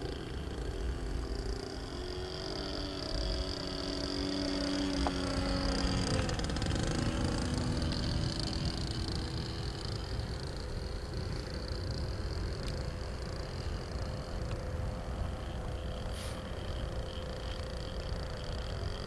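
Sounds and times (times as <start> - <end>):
model airplane motor droning: 0.0 - 19.0.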